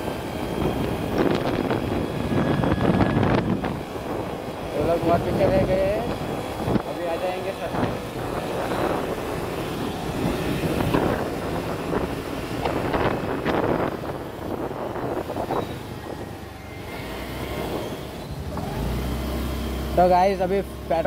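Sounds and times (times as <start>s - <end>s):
wind buffeting microphone: 0.0s - 18.8s
scooter engine: 0.0s - 21.0s.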